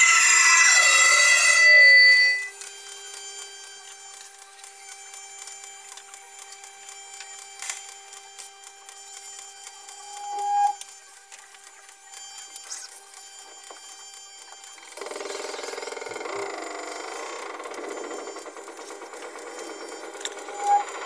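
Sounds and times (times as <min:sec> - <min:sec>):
steady held tones: 0:00.0 - 0:21.0
fine clicks and crackle: 0:00.8 - 0:21.0.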